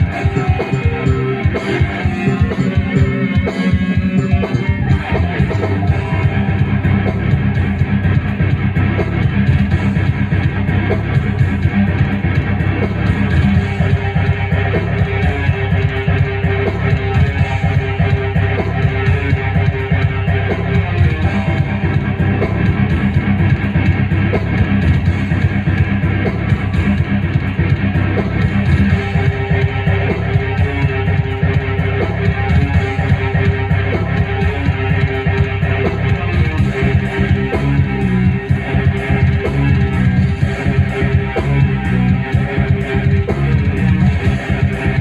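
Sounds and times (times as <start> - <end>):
bass-heavy backing music: 0.0 - 45.0
keyboard guitar-like melody: 0.0 - 45.0.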